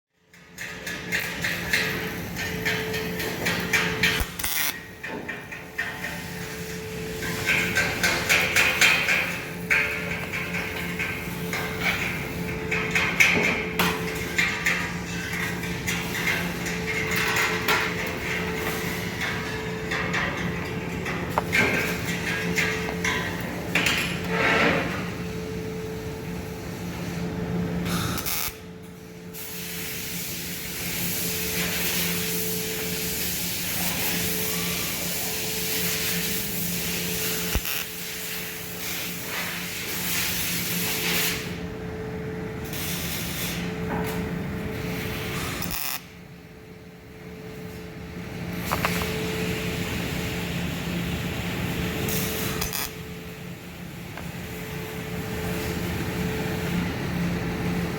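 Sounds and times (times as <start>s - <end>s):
welding arc hissing and crackling: 0.6s - 24.3s, 27.8s - 41.7s, 42.5s - 46.4s, 47.4s - 56.8s.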